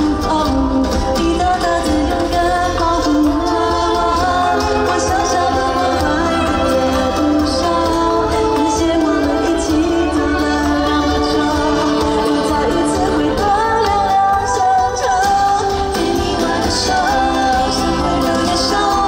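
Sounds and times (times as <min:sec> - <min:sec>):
band playing: 0:00.0 - 0:19.0
person singing: 0:00.0 - 0:19.0.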